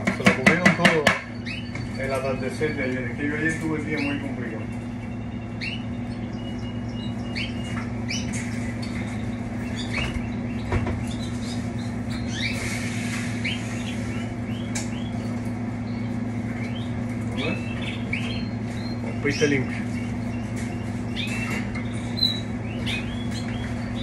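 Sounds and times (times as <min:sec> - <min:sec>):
canaries chirping: 0:00.0 - 0:24.0
steady low hum: 0:00.0 - 0:24.0.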